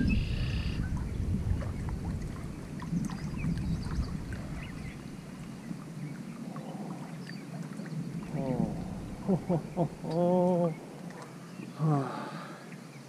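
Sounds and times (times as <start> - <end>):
wind rumbling on microphone: 0.0 - 11.1
water sloshing and splashing: 0.0 - 11.8.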